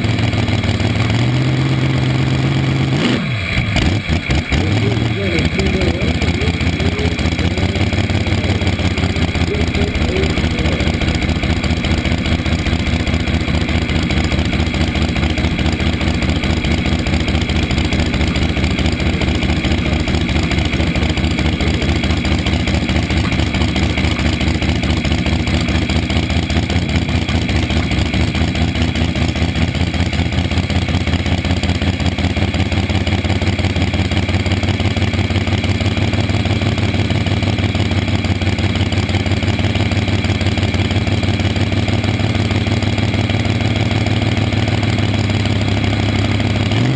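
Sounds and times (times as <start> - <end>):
dragster engine idling: 0.0 - 46.9.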